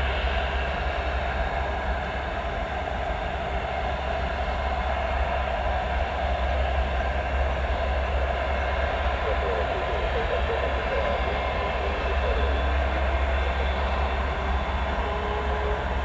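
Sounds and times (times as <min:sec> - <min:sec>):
turboprop engines running: 0:00.0 - 0:16.0.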